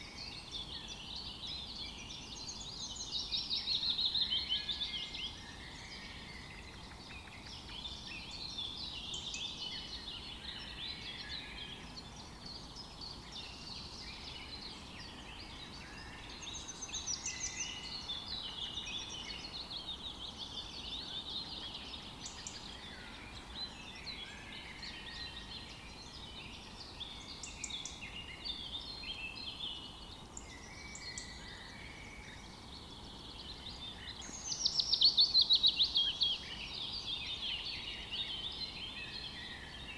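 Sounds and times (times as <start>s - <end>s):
faint background hiss: 0.0s - 39.9s
songbirds singing and chirping: 0.0s - 39.9s.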